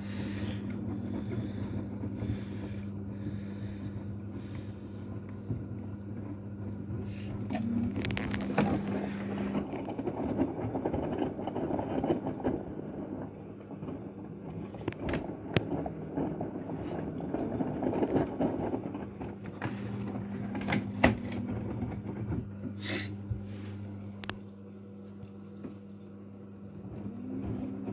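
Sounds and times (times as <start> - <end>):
washing machine drum churning: 0.0 - 24.4, 25.5 - 27.9
washing machine motor hum: 0.0 - 27.9.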